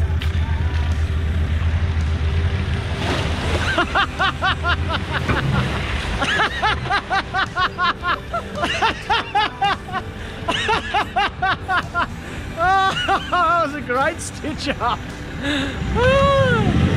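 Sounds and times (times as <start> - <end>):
water splashing around wheels: 0.0 - 13.6
vehicle engine rumbling: 0.0 - 16.9.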